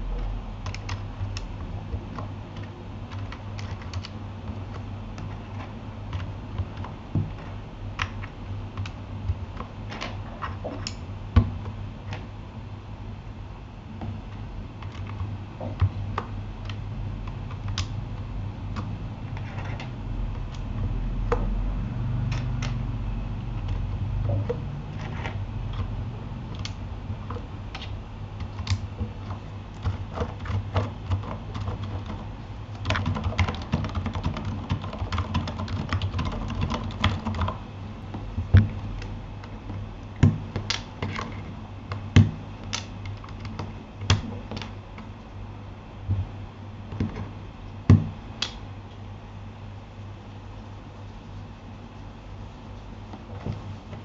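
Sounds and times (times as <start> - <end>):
damped keyboard typing: 0.0 - 12.4, 14.0 - 45.2.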